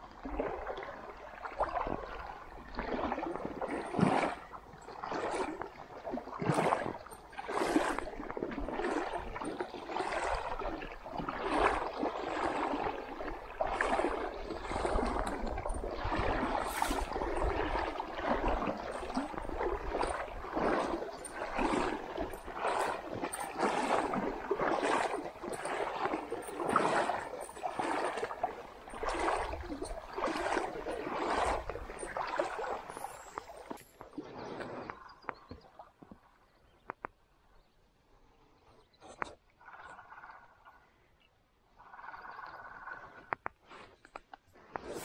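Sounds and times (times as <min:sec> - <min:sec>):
wading steps sloshing in water: 0:00.0 - 0:37.4, 0:41.8 - 0:45.0.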